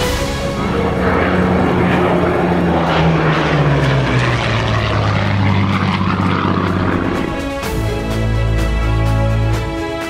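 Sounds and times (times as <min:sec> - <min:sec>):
propeller plane engine flying past: 0:00.0 - 0:10.0.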